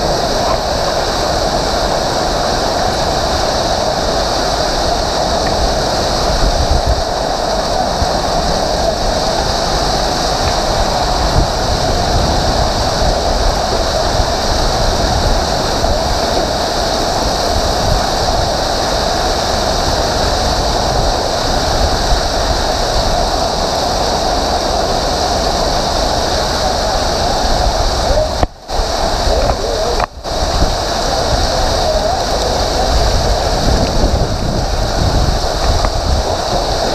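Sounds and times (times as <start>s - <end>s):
heavy hail and rain: 0.0s - 36.9s.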